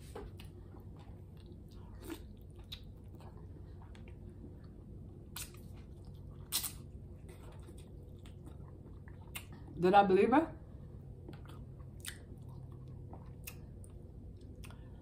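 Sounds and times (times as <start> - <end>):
person chewing: 0.2 - 9.8, 11.1 - 15.0.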